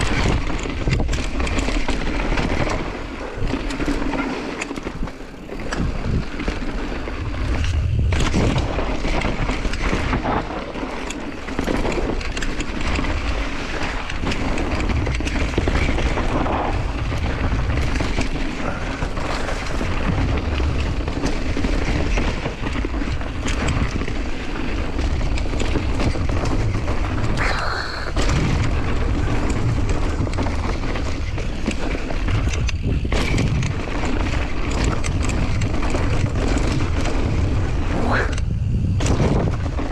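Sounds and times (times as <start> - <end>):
bike rattling: 0.0 - 39.9
wind rumble on microphone: 0.0 - 39.9.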